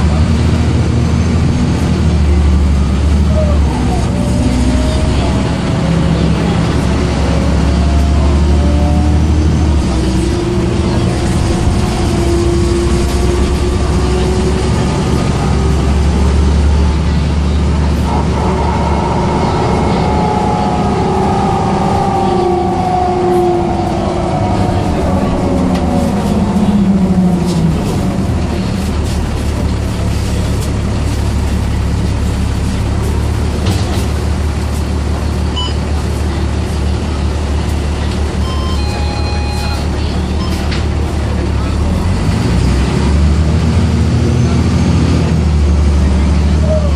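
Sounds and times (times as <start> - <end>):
low diesel drone: 0.0 - 46.9.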